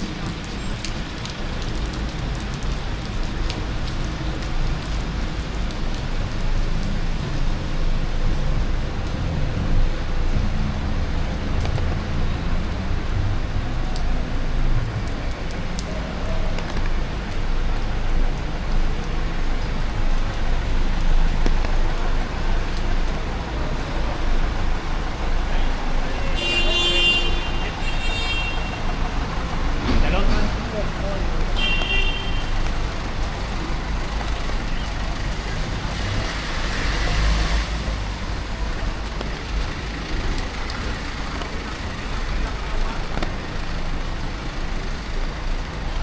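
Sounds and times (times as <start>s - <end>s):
raindrops ticking: 0.0s - 46.0s
road and tyre noise: 0.0s - 46.0s
steady rain: 0.0s - 46.0s
street traffic rumble: 0.0s - 46.0s.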